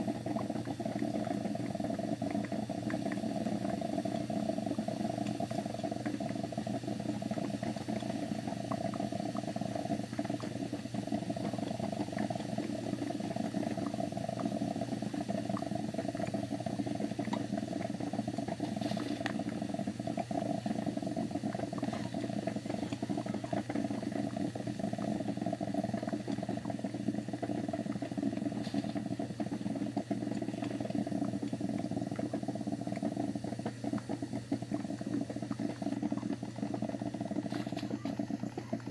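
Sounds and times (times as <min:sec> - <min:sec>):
coffee machine buzzing hum: 0:00.0 - 0:38.9.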